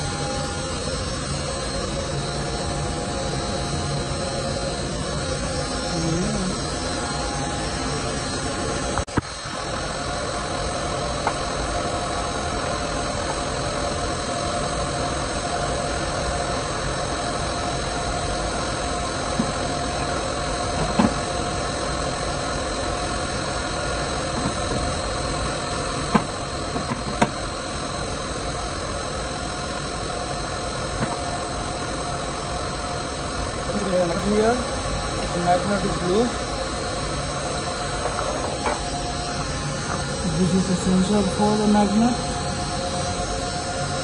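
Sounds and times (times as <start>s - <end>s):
machinery humming and whining: 0.0s - 44.0s.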